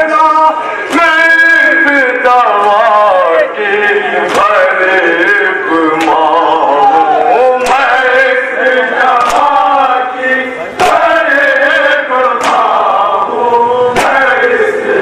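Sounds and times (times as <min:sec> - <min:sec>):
man singing a lament into microphone: 0:00.0 - 0:15.0.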